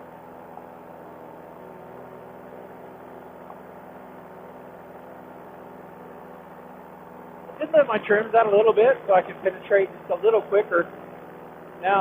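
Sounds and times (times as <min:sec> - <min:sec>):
paramotor engine running: 0:00.0 - 0:12.0.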